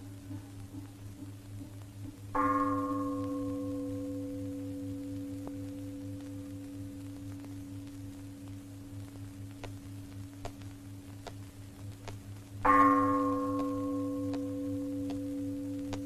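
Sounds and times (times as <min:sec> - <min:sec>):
steady humming tone: 0:00.0 - 0:16.0.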